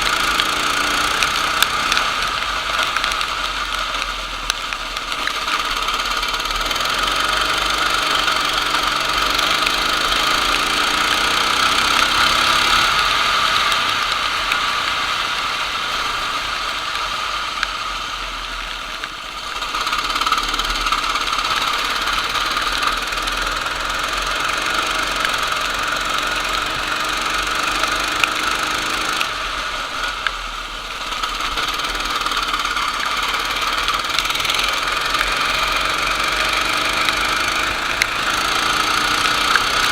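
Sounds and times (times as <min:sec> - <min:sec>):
racing kart engine accelerating: 0:00.0 - 0:39.9.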